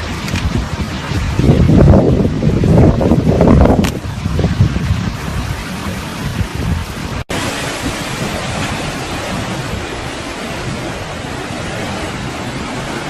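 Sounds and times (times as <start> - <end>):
storm waves rushing: 0.0 - 13.0
wind buffeting microphone: 0.0 - 13.0.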